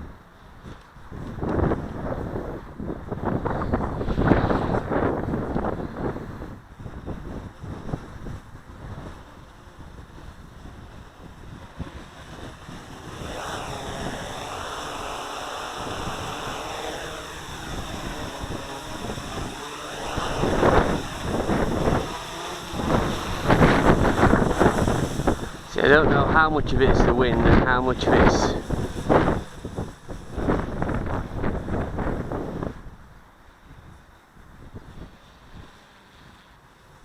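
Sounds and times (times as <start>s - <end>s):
quadcopter motors whining: 0.0s - 37.0s
wind buffeting microphone: 0.0s - 37.0s.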